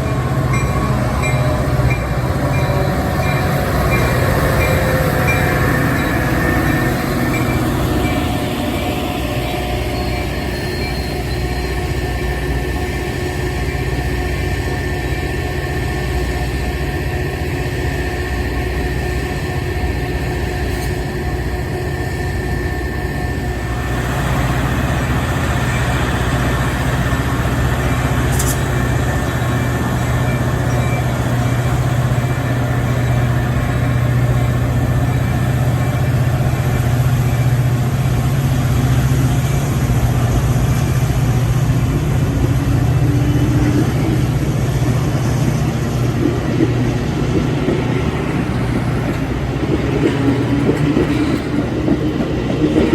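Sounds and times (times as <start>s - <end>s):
diesel locomotive engine droning: 0.0s - 52.9s.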